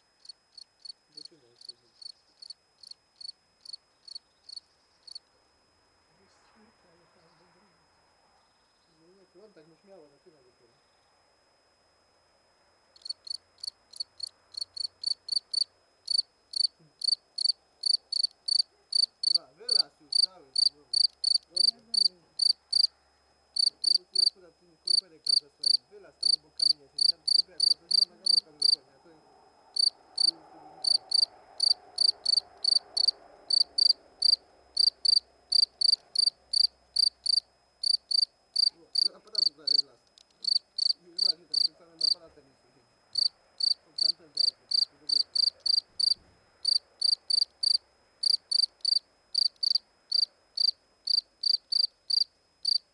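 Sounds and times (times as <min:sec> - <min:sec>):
cricket chirping: 0:00.0 - 0:52.9.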